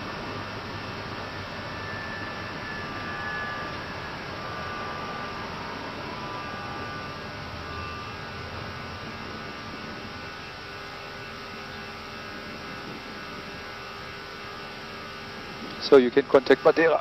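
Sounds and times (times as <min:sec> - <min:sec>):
aircraft engine and airflow noise: 0:00.0 - 0:17.0
faint steady hum: 0:00.0 - 0:17.0.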